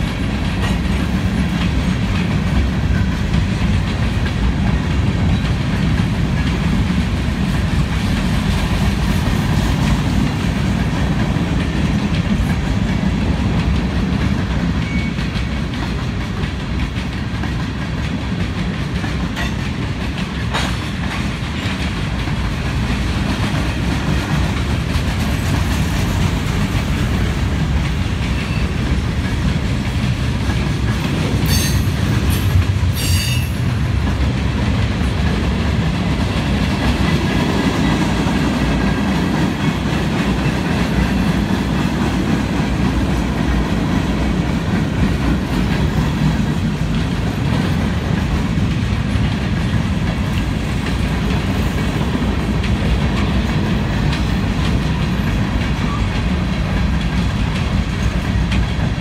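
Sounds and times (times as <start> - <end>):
clickety-clack over rail joints: 0.0 - 59.0
freight train wheels rumbling: 0.0 - 59.0.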